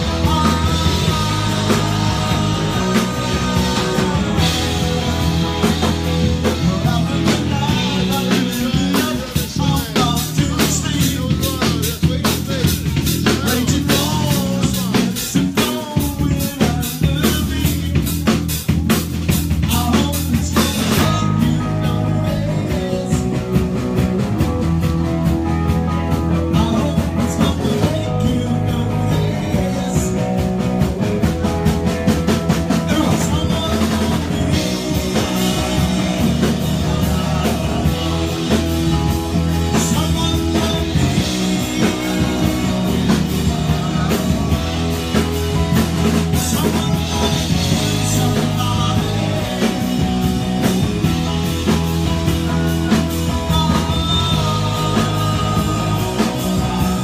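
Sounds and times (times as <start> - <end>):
drum kit beat: 0.0 - 57.0
electric guitar: 0.0 - 57.0.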